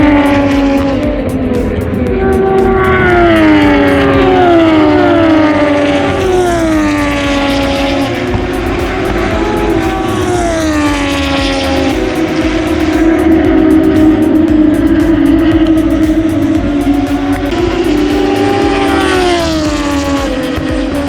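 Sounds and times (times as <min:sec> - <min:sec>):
racing motorcycles passing: 0:00.0 - 0:21.0
steady motorcycle engine note: 0:00.0 - 0:21.0.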